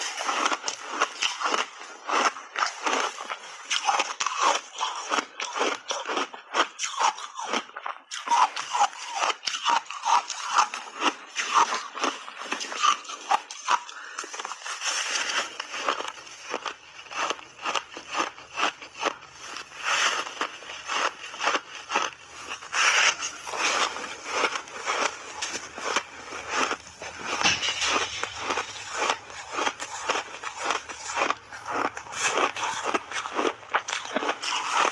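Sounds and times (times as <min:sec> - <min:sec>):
crunching and chewing ice: 0:00.0 - 0:34.9.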